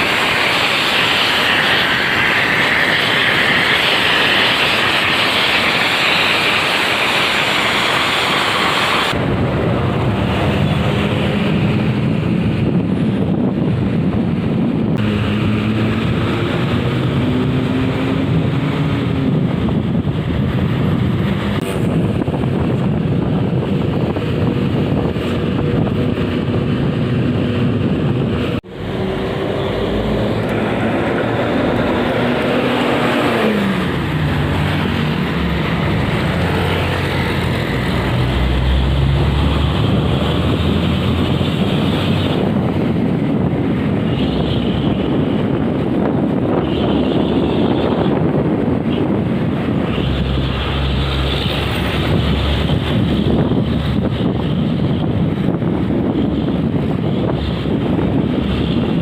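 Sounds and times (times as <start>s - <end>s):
bus diesel engine pulling: 0.0s - 59.0s
rushing wind: 0.0s - 59.0s
tyre road noise: 0.0s - 59.0s.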